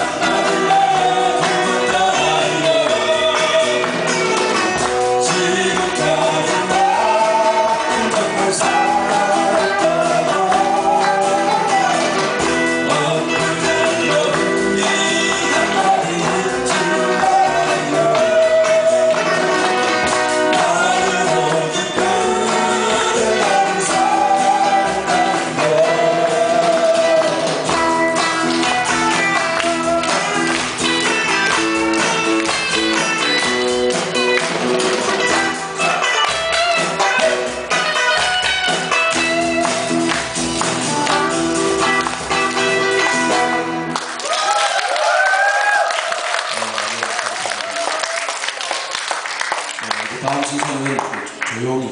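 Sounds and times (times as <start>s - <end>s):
live band playing pop: 0.0s - 51.9s.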